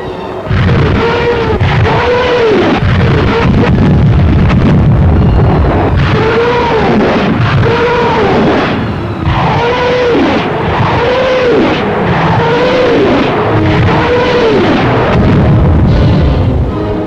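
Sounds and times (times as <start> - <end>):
heavy rumbling blast noise: 0.0 - 17.0
howling rocket tones: 0.0 - 17.0.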